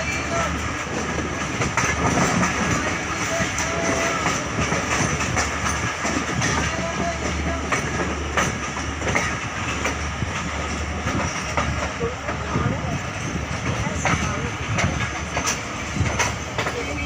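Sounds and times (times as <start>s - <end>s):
train carriage rumble and rattle: 0.0s - 17.0s
wheels clacking over rail joints: 0.0s - 17.0s.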